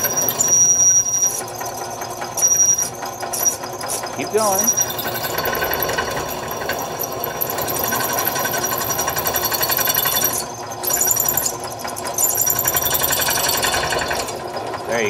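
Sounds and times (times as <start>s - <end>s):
drill press running: 0.0s - 15.0s
high squeal from drill cutting: 0.0s - 15.0s.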